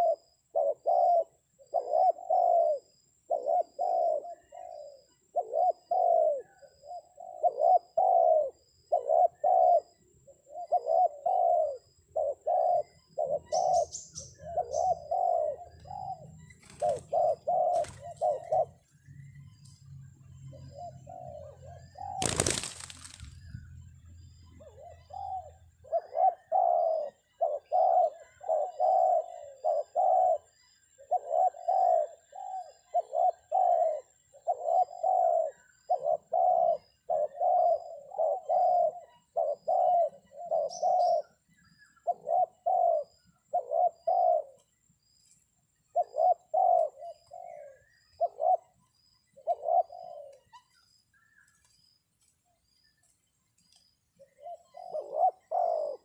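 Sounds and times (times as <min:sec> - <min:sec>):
dove cooing: 0:00.0 - 0:19.0, 0:20.5 - 0:23.7, 0:24.5 - 0:44.8, 0:45.8 - 0:50.8, 0:54.2 - 0:56.0.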